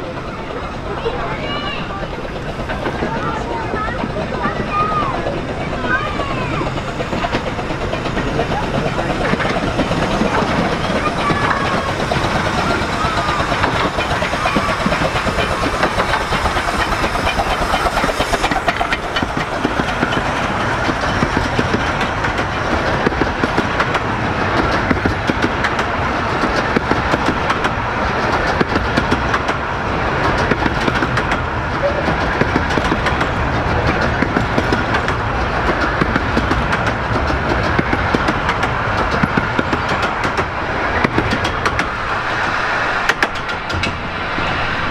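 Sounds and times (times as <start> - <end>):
train wheels clattering over rail joints: 0.0 - 44.3.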